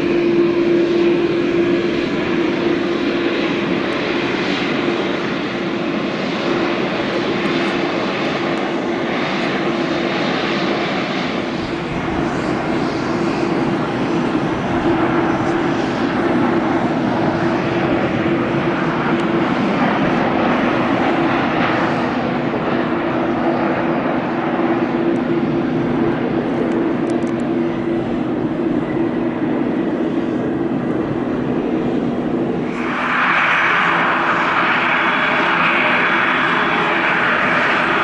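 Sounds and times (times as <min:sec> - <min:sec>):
jet engines rushing: 0:00.0 - 0:38.0
regional jet engines on landing: 0:00.0 - 0:38.0.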